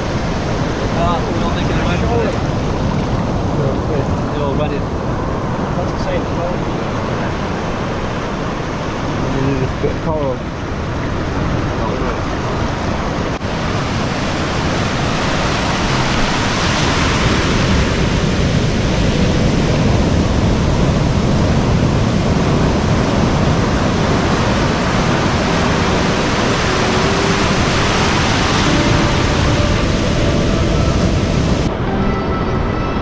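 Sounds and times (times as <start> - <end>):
ocean surf breaking: 0.0 - 31.8
wind: 0.0 - 33.0.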